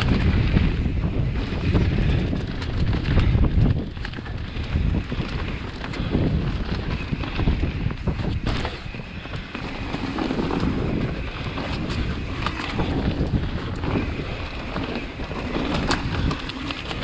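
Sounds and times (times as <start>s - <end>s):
bike clattering over bumps: 0.0s - 17.0s
tyres rumbling on dirt: 0.0s - 17.0s
wind buffeting microphone: 0.0s - 17.0s.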